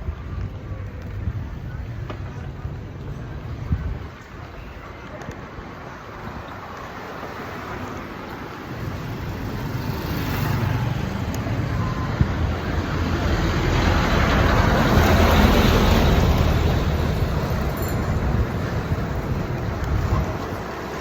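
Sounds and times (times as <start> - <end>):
vehicle engine hum and tyre noise: 0.0 - 21.0.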